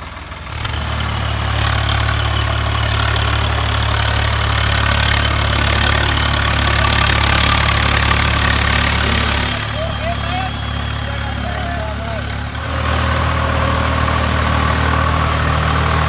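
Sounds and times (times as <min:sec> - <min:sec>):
model tractor motor whining: 0:00.0 - 0:16.0.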